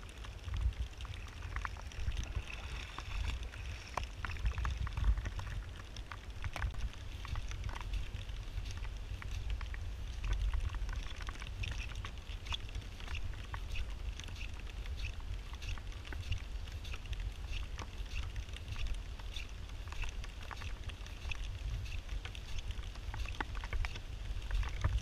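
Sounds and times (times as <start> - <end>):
constant low rumble: 0.0 - 25.0
raindrops tapping close by: 0.0 - 25.0.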